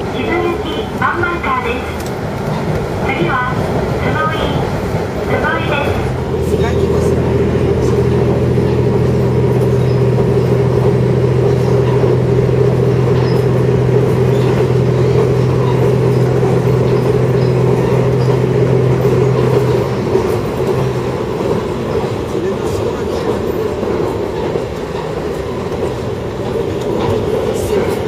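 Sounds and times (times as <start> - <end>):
railcar engine drone: 0.0 - 28.0
rumble of wheels on track: 0.0 - 28.0.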